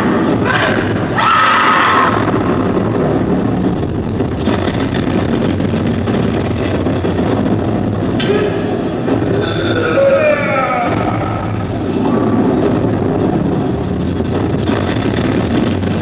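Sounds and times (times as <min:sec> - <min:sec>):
loud rushing and rumbling noise: 0:00.0 - 0:16.0.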